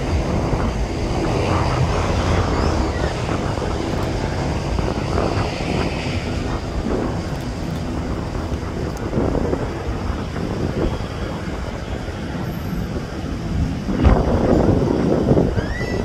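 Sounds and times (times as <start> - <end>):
jet plane rumble: 0.0 - 16.0.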